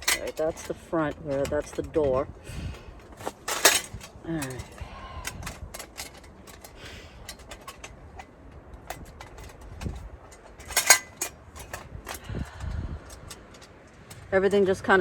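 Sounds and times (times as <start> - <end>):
metal parts clattering: 0.0 - 14.4
light metal clicks and clinks: 0.0 - 15.0.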